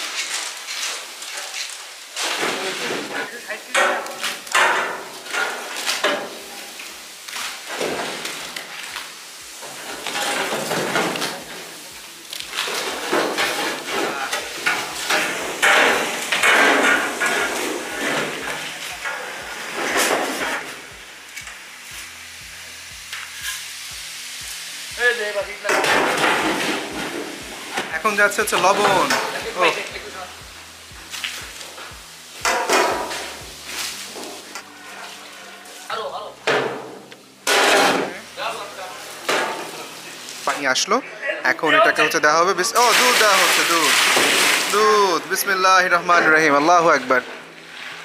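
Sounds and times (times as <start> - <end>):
oil and spices sizzling in pot: 0.0 - 48.0.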